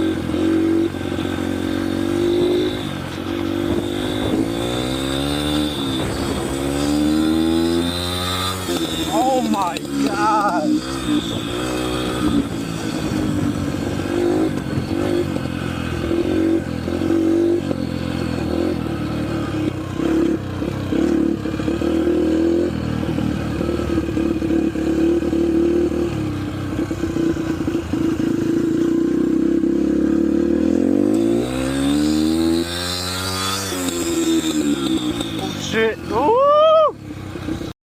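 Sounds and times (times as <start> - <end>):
dirt bike engine running: 0.0 - 37.7.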